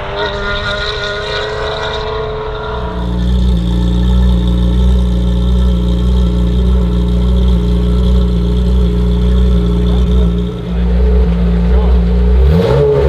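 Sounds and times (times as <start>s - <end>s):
race car engine running loud: 0.0s - 13.0s.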